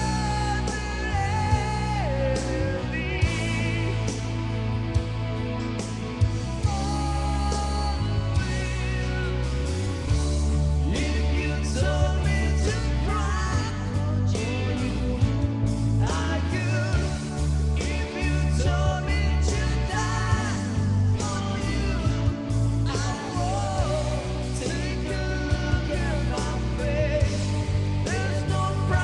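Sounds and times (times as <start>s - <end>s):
person singing with vibrato: 0.0s - 4.6s, 6.4s - 29.0s
rock band backing: 0.0s - 29.0s.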